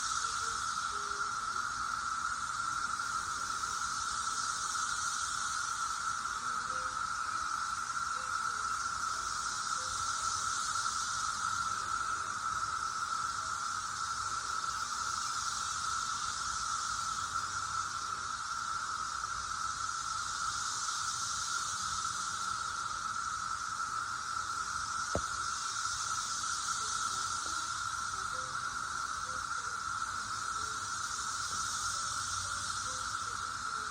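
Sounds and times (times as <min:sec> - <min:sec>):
cicadas droning: 0:00.0 - 0:33.9
high cicada hiss: 0:00.0 - 0:33.9.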